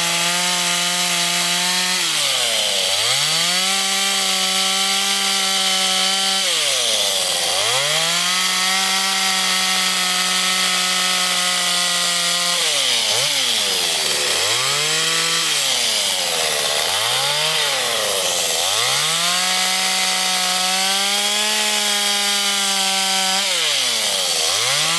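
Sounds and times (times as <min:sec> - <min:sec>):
chainsaw cutting wood: 0:00.0 - 0:24.9.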